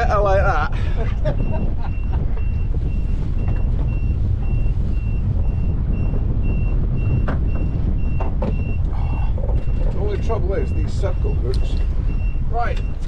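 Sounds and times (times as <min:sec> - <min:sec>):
constant low rumble: 0:00.0 - 0:13.0
electronic alarm beeping: 0:01.2 - 0:13.0.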